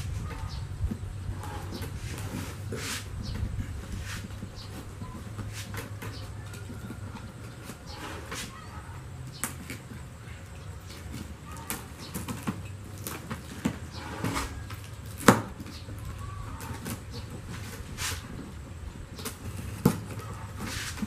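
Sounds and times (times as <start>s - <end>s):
knife cutting tape and cardboard: 0.0s - 10.0s, 10.8s - 21.0s.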